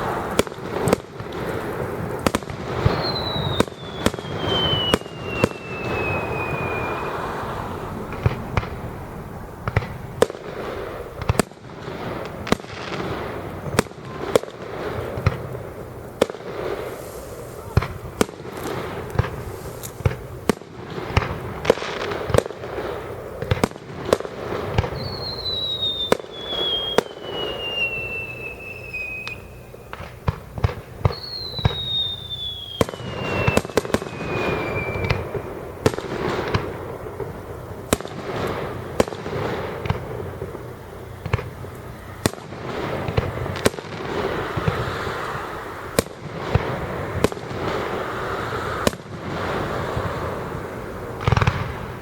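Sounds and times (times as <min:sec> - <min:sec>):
falling firework whistles: 0:00.0 - 0:52.0
fireworks bangs and bursts: 0:00.0 - 0:52.0.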